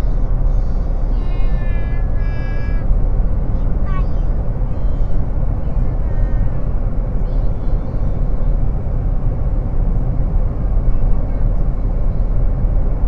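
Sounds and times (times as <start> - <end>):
road and wind noise: 0.0 - 13.0
vehicle rumbling on highway: 0.0 - 13.0.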